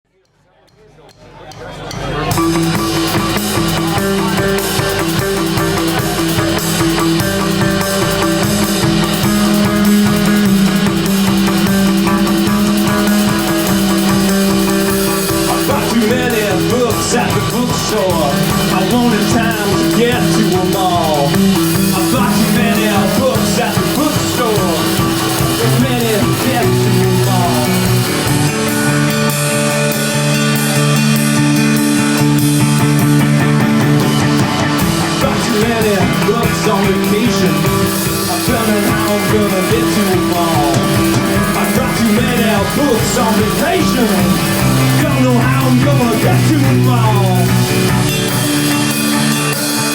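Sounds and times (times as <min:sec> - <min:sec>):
drum kit beat: 0:00.1 - 0:49.9
rock band playing live: 0:01.5 - 0:49.9
electric guitar: 0:02.2 - 0:49.9.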